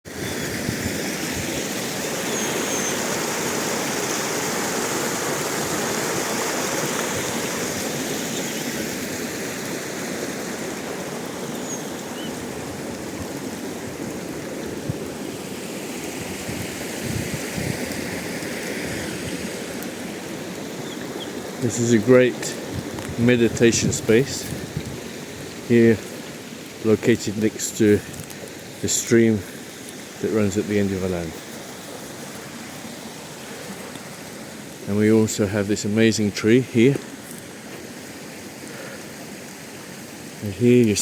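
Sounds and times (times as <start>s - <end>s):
stream water rushing: 0.1s - 41.0s.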